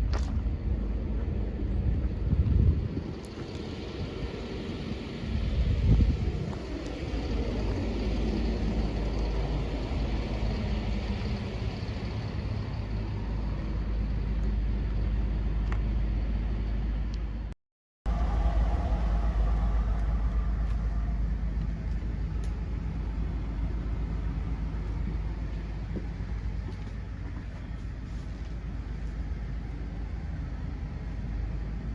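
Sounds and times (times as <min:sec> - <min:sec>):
motorhome engine rumbling: 0:00.0 - 0:17.5, 0:18.1 - 0:31.9.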